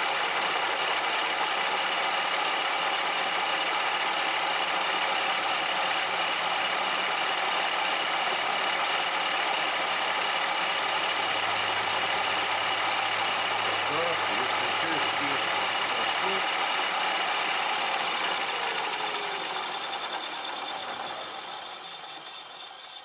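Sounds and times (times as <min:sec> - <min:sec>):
milling machine running: 0:00.0 - 0:23.0.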